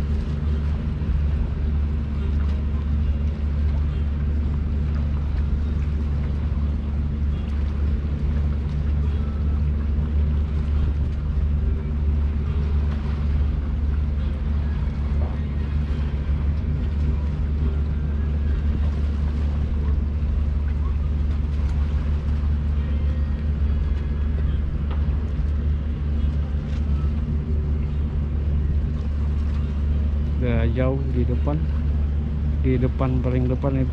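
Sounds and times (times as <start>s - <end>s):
low engine drone: 0.0s - 33.9s.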